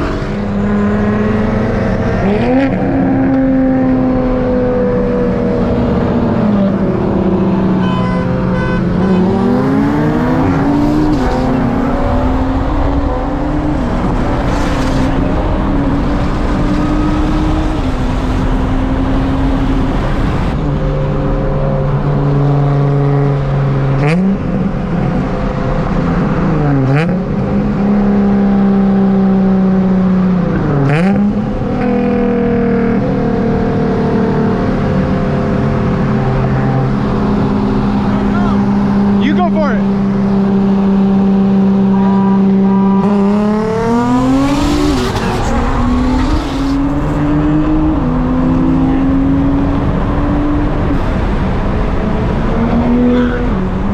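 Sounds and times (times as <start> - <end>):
car engine at full throttle: 0.0 - 53.9.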